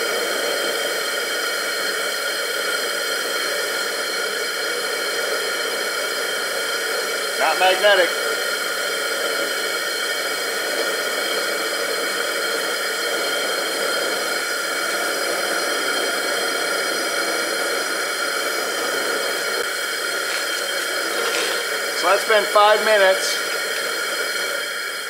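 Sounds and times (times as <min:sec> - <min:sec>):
propane burner rushing: 0:00.0 - 0:25.0.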